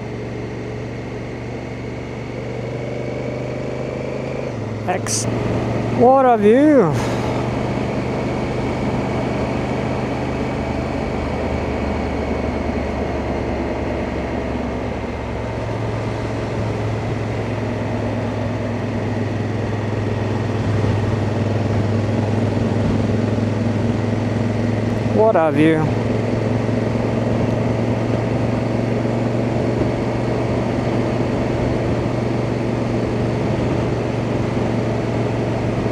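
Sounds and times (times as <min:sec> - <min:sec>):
motorcycle engine running: 0:00.0 - 0:35.9
wind and road noise: 0:00.0 - 0:35.9.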